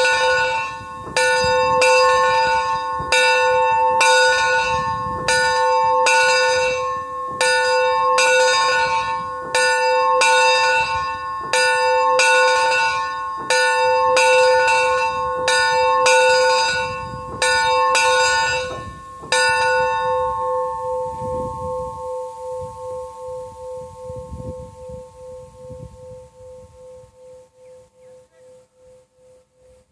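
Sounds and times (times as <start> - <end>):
locomotive bell ringing: 0.0 - 27.6.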